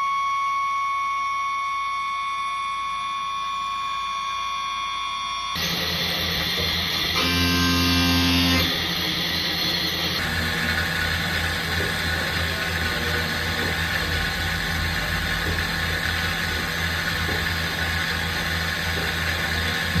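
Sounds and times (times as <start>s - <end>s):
machine tool hum and whir: 0.0s - 20.0s.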